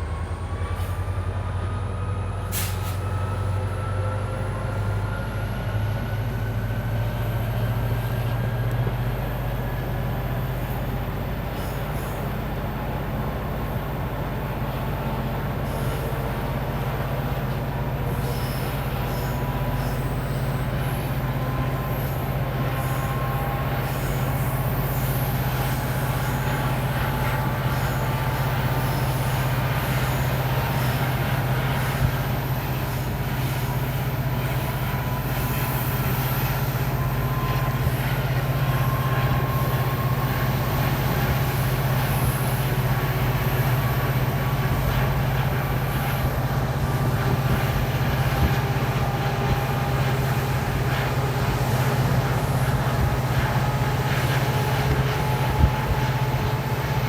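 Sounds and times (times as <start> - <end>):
diesel locomotive engine drone: 0.0 - 57.0
train rumbling on rails: 0.0 - 57.0.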